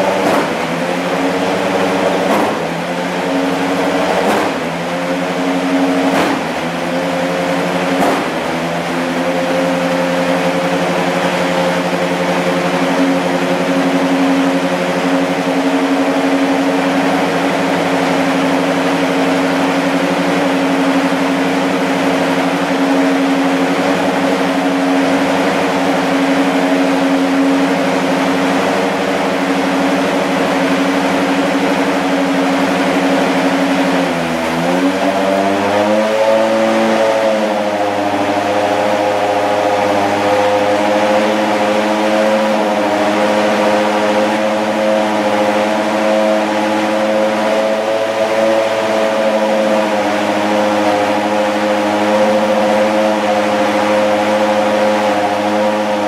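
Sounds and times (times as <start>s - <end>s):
racing car engine idling: 0.0s - 56.0s.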